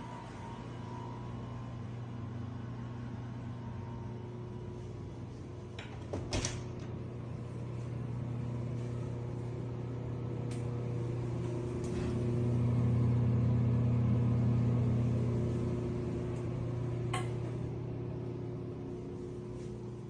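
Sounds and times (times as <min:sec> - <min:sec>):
ventilation fan humming: 0:00.0 - 0:20.0.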